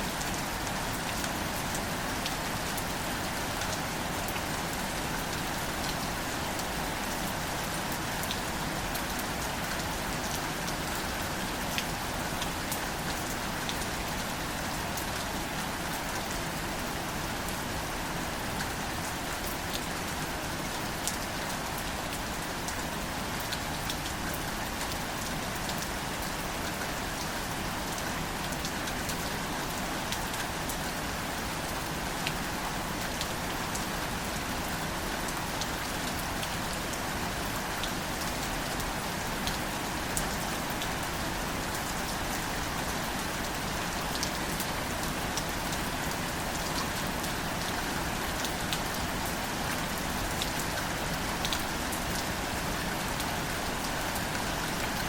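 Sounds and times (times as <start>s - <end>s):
gentle rain on foliage: 0.0s - 55.0s.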